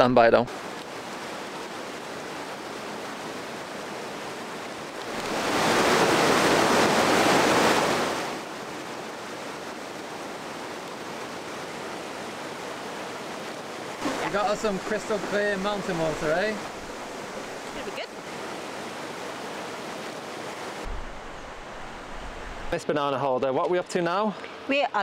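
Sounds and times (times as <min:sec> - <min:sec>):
river rushing over rocks: 0:00.5 - 0:22.8.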